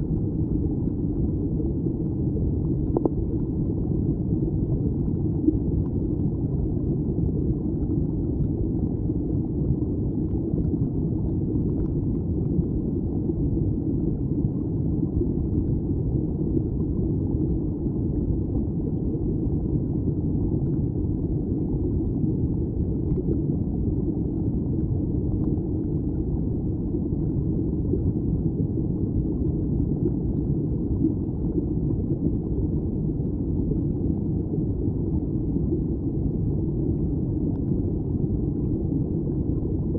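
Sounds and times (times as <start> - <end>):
stream water rumbling underwater: 0.0 - 39.9.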